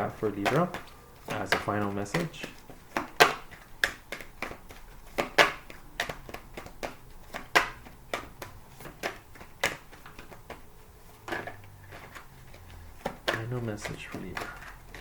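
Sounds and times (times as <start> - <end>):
cards being shuffled by hand: 0.0 - 15.0.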